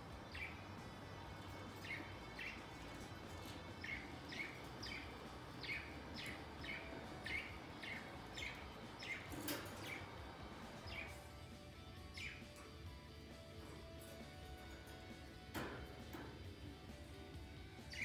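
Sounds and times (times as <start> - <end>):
budgerigars chirping: 0.0 - 16.4, 17.1 - 18.0.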